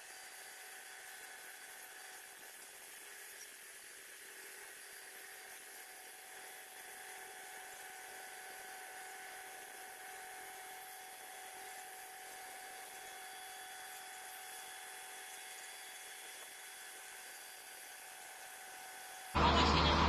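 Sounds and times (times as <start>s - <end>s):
faint mechanical whine: 0.0s - 20.0s.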